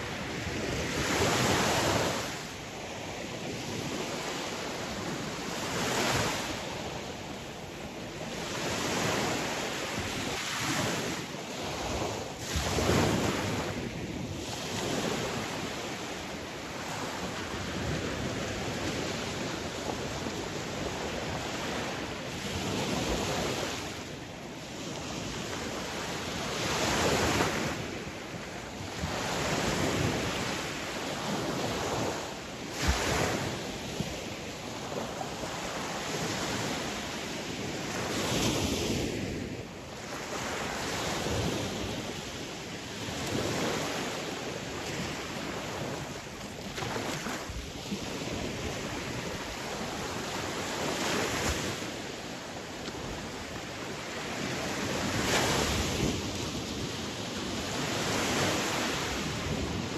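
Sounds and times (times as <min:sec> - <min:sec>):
sea waves breaking on shore: 0:00.0 - 0:59.9
wind on microphone: 0:00.0 - 0:59.9.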